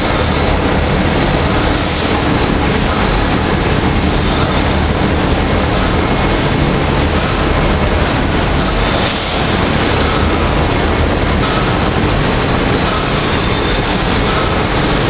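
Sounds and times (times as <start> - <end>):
production line machinery din: 0.0 - 15.0.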